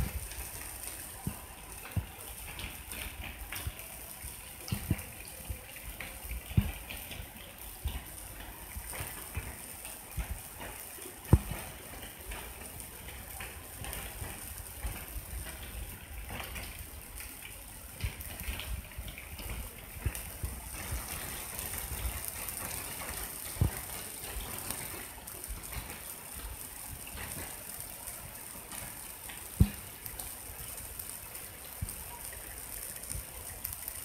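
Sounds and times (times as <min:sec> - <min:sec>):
rain and running water: 0:00.0 - 0:34.0.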